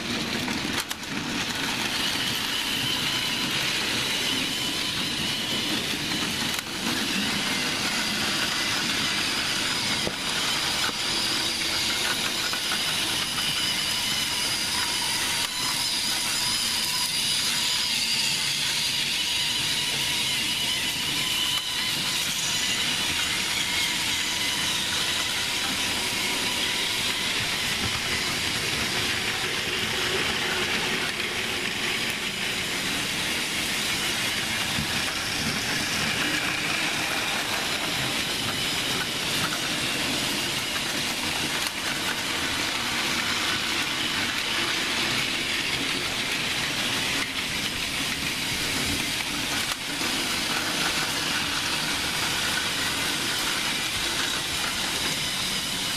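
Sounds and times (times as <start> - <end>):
toy train motors whirring: 0.0 - 55.9
wheels clicking on track: 0.0 - 55.9.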